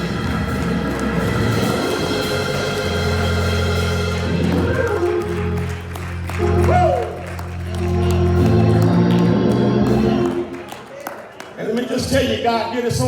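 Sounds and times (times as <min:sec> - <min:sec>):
church organ chords: 0:00.0 - 0:10.8.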